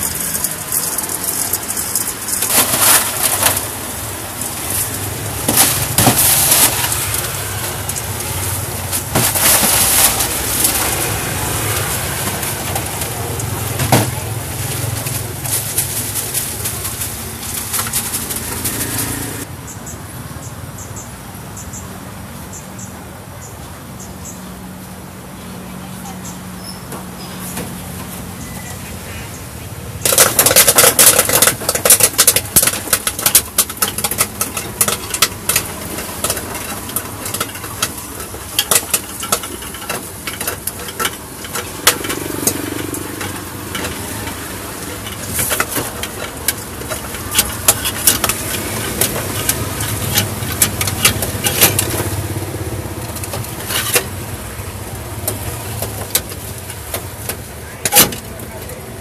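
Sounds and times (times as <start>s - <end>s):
popcorn popping: 0.0s - 19.5s, 30.0s - 59.0s.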